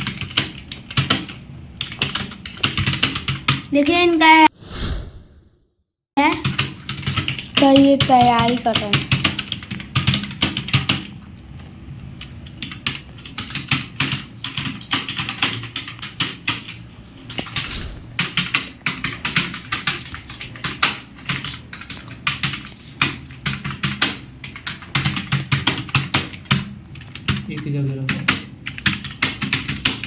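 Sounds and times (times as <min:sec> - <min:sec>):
fast keyboard typing: 0:00.0 - 0:04.0, 0:06.2 - 0:30.0.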